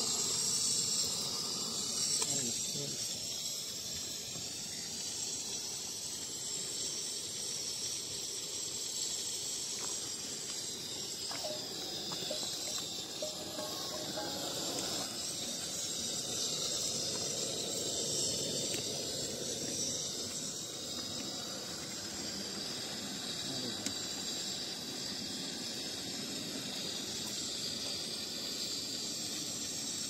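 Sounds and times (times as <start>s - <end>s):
gas burner hissing: 0.0s - 30.0s.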